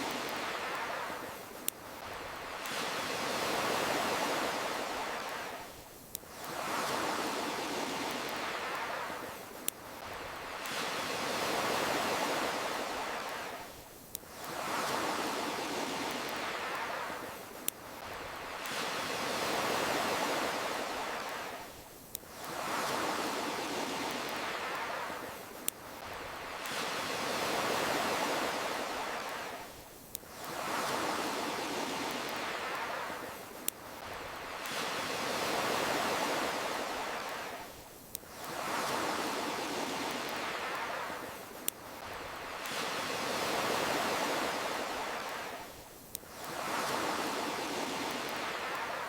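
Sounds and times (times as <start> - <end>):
ocean waves washing in: 0.0 - 49.0.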